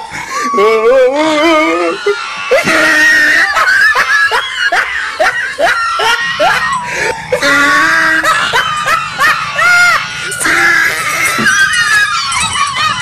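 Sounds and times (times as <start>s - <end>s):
people laughing: 0.0s - 13.0s
people screaming: 0.0s - 13.0s.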